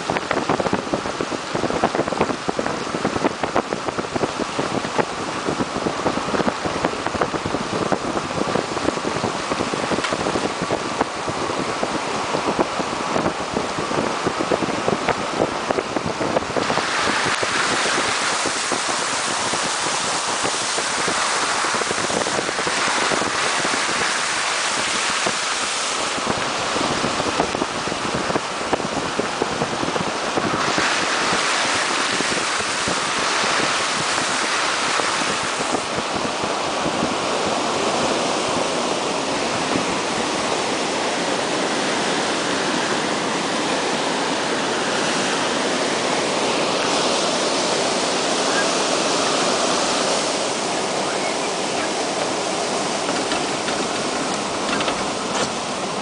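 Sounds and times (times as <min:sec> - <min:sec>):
car driving through deep water: 0:00.0 - 0:56.0
river running fast: 0:00.0 - 0:56.0
wind noise on microphone: 0:00.0 - 0:56.0.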